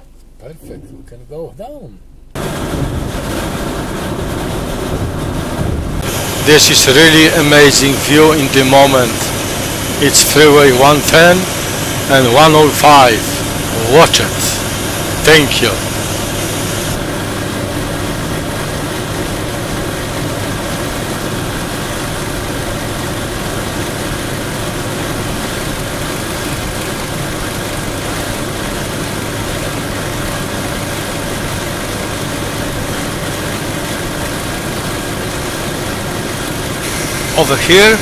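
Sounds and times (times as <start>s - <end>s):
car engine hum: 0.0s - 38.0s.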